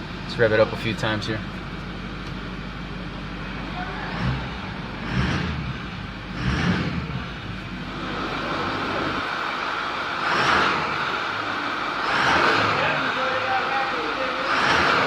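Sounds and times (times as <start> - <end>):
diesel engine idling and revving: 0.0 - 15.0.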